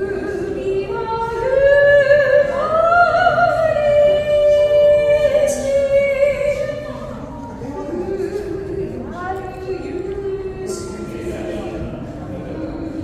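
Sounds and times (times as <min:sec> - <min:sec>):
high voice singing with vibrato: 0:00.0 - 0:11.7.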